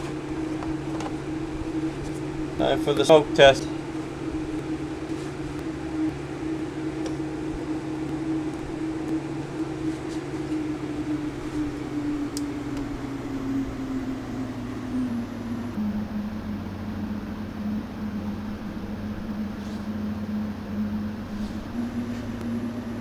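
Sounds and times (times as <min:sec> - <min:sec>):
machine hum dropping in pitch: 0:00.0 - 0:23.0.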